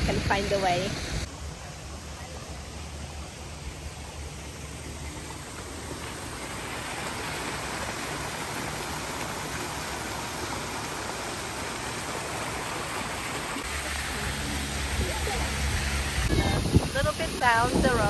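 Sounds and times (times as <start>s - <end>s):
stream splashing over rocks: 0.1s - 18.0s.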